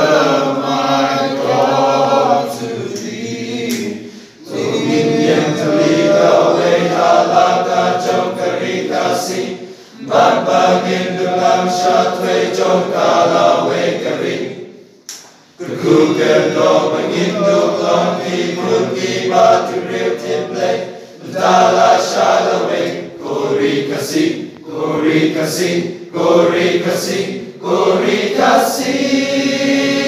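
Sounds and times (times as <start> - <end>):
male choir singing: 0.0 - 14.8, 15.6 - 30.0.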